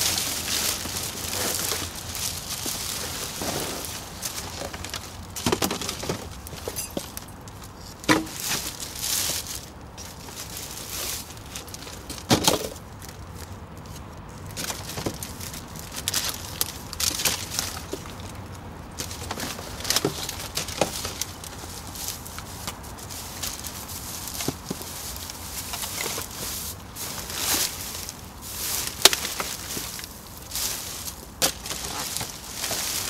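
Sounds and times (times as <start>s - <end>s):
plastic bags and foil crinkling: 0.0s - 33.0s.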